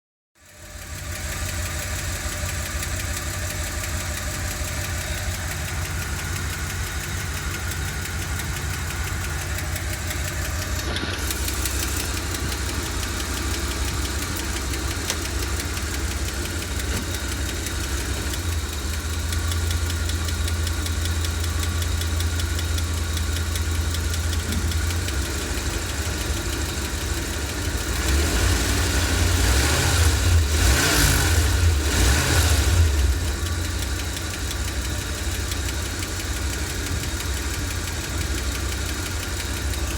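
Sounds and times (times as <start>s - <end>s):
engine idling with ticking: 0.4s - 39.9s.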